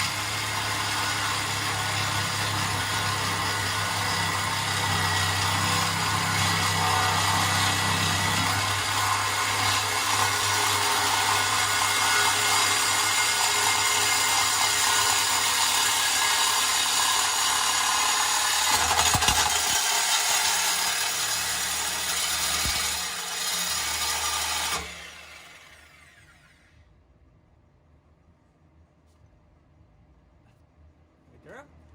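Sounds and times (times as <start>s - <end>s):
power tool cutting exhaust pipe: 0.0s - 26.7s.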